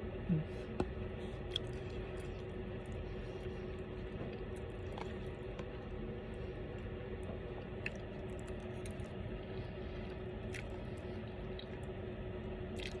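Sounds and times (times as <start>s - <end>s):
faint steady hum: 0.0s - 13.0s
chewing noodles: 1.4s - 12.0s, 12.7s - 13.0s.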